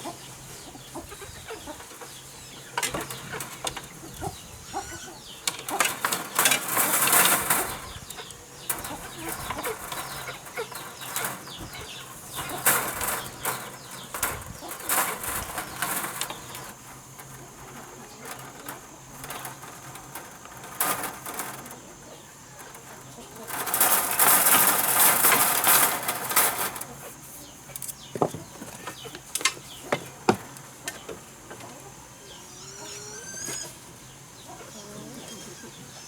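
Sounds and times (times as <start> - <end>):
chickens calling: 0.0 - 36.0.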